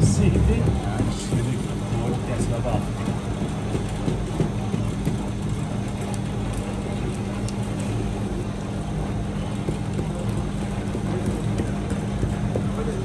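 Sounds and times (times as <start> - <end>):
bakery machinery humming: 0.0 - 13.0.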